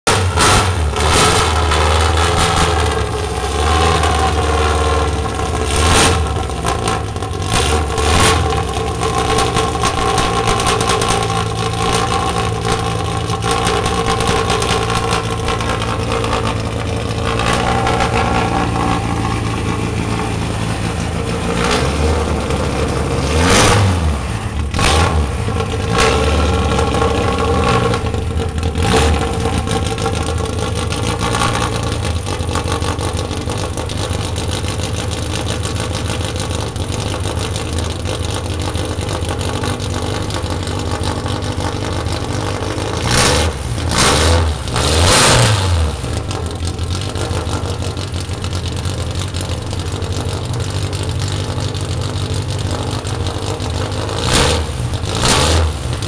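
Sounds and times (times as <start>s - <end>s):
engine throttle blips: 0.0s - 56.0s
race car engine idling: 0.0s - 56.0s.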